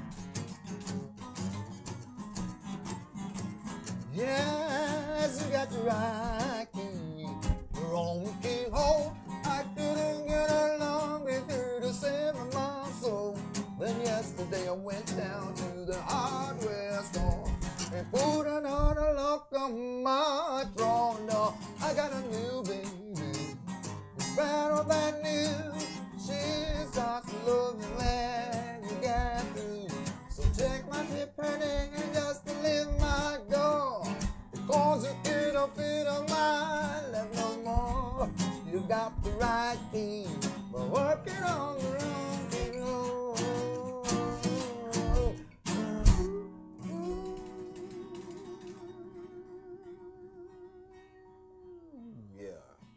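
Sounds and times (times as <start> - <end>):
guitar: 0.0 - 52.9.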